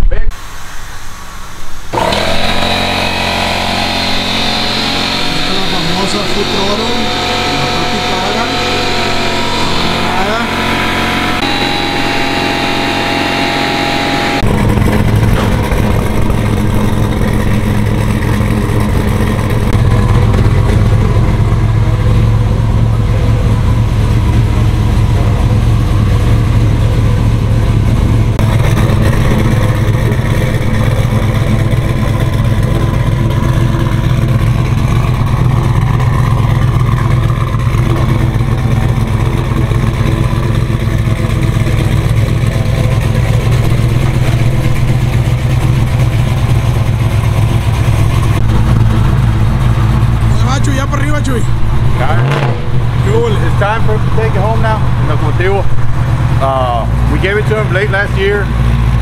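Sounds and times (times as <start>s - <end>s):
pickup truck engine running: 1.9s - 59.0s.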